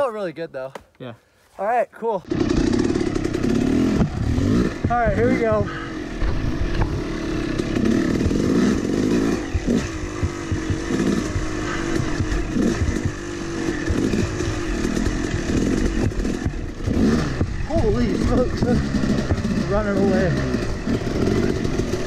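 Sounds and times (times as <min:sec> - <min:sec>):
dirt bike engine revving: 0:02.2 - 0:22.0.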